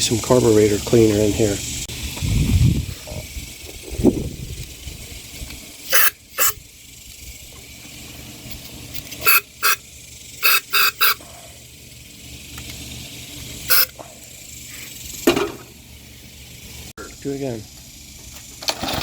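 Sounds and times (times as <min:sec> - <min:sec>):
aerosol spray hissing: 0:00.6 - 0:16.9.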